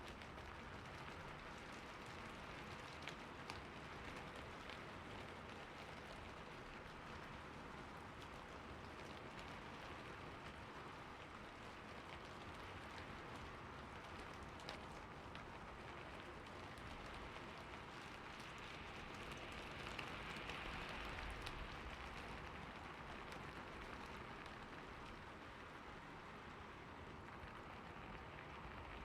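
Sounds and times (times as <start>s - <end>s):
soft steady rain: 0.0s - 29.0s.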